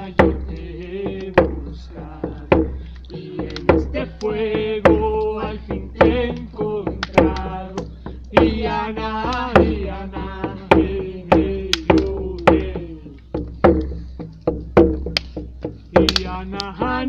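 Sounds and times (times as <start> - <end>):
ceremonial chant singing: 0.0 - 13.3, 15.9 - 17.0
drum beating steadily: 0.0 - 17.0.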